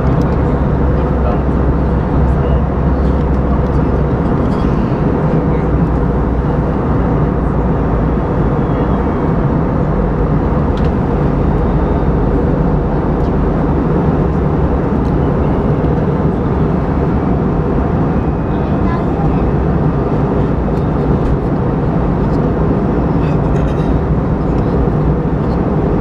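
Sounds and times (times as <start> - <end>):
jet engine hum: 0.0 - 26.0.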